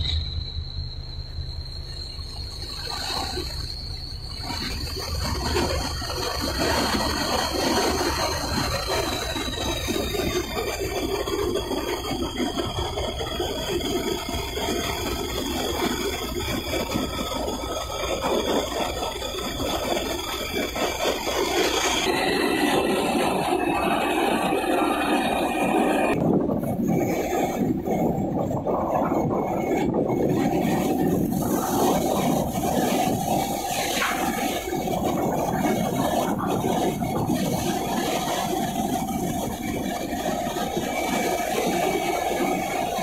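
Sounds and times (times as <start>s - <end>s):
boat engines humming: 0.0s - 43.0s
thin high whine: 0.0s - 43.0s.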